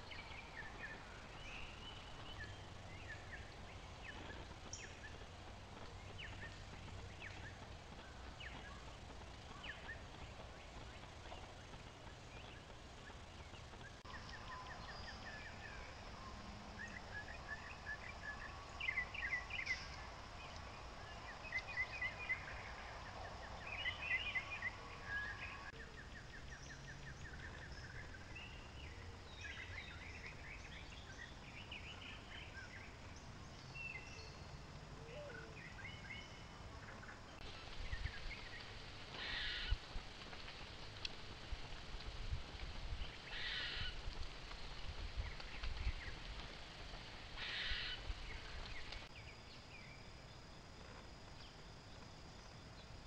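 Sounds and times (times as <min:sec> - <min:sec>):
low steady background rumble: 0:00.0 - 0:53.0.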